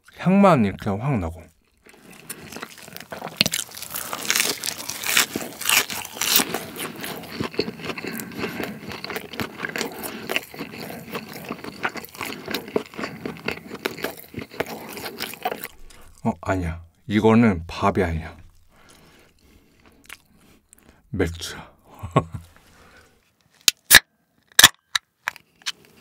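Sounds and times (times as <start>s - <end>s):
crunching and chewing food: 1.2s - 21.1s, 24.5s - 26.0s.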